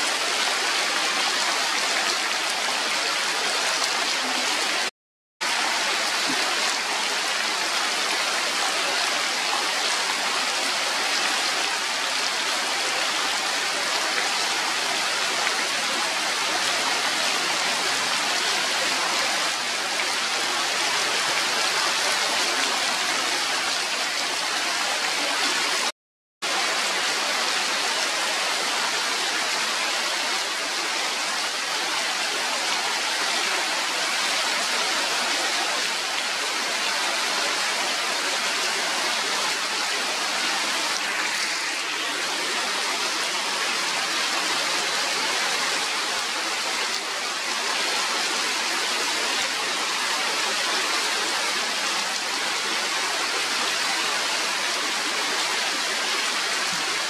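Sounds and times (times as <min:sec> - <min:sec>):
rain falling on leaves: 0:00.0 - 0:25.9, 0:26.5 - 0:57.0.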